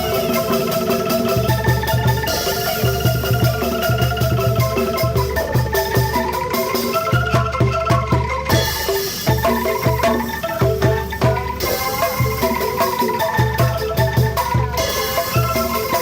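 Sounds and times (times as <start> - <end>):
bamboo tubes rattling: 0.0 - 16.0.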